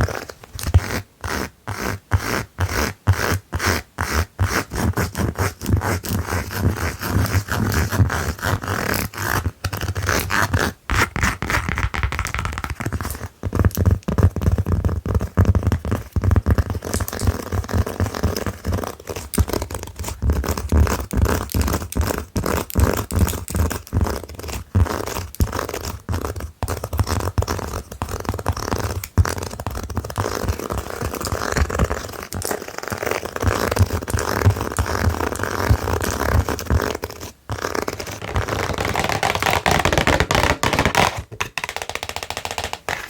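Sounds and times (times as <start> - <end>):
fingernails scratching on slipper: 0.0 - 43.0.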